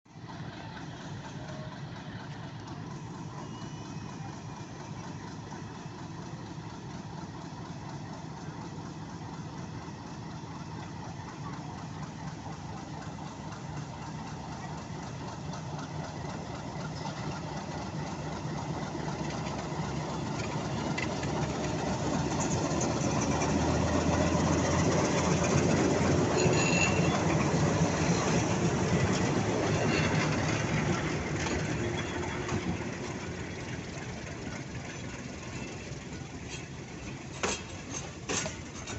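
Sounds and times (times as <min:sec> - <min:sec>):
diesel locomotive engine running: 0:00.1 - 0:38.9.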